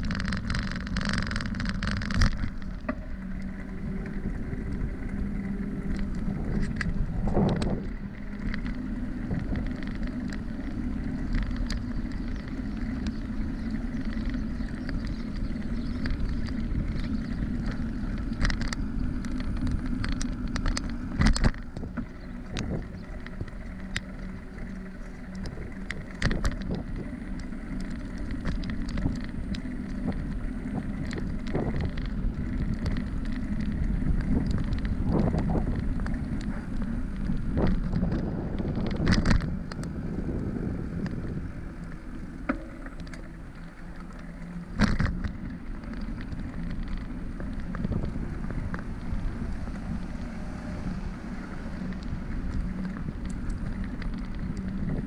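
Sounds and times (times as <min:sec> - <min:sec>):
bicycle rattling over bumps: 0:00.0 - 0:55.0
bicycle tyres rumbling on path: 0:00.0 - 0:55.0.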